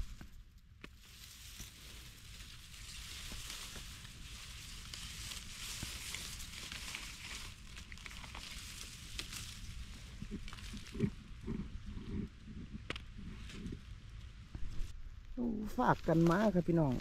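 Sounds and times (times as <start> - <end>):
dry leaves rustling and crackling: 0.0 - 12.0, 13.3 - 17.0.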